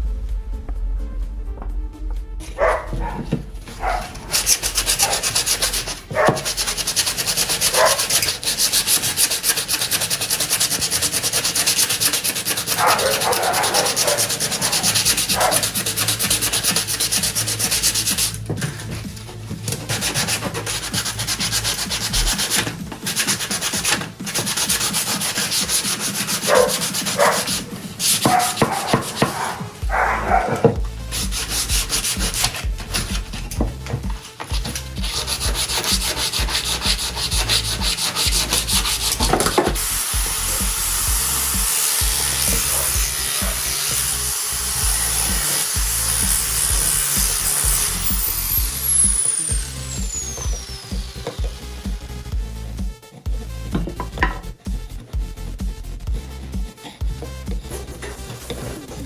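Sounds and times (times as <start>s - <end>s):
wood being sanded: 2.4s - 59.0s.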